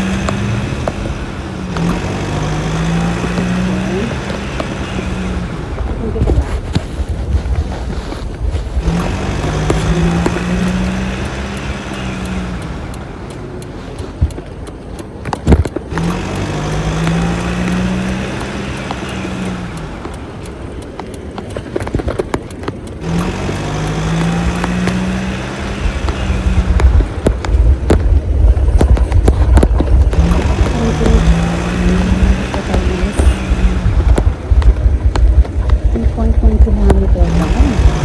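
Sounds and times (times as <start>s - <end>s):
bicycle road noise: 0.0s - 38.0s
heavy rumbling gusts: 0.0s - 38.0s
low hum: 0.0s - 38.0s
sharp clicks and rattles: 0.0s - 38.0s.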